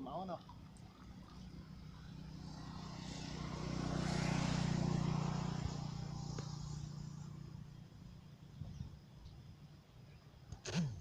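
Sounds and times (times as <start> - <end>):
vehicle passing by: 0.0 - 9.0.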